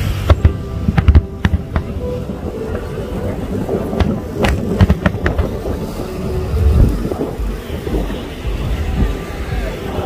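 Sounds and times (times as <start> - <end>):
fireworks cracking: 0.0 - 10.0
low rumble: 0.0 - 10.0.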